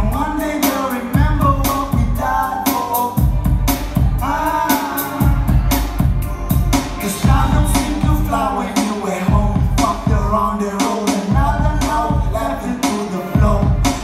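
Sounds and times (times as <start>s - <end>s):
person singing: 0.0s - 14.0s
programmed beat with heavy bass: 0.0s - 14.0s.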